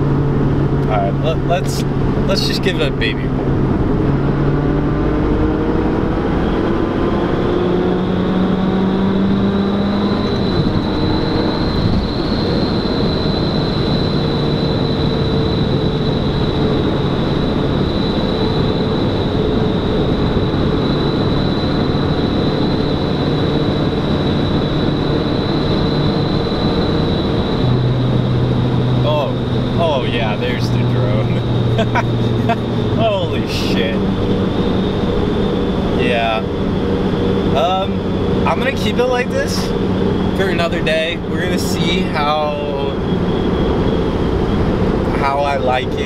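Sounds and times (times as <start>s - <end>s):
car engine accelerating: 0.0s - 46.0s
steady high whine: 0.0s - 46.0s.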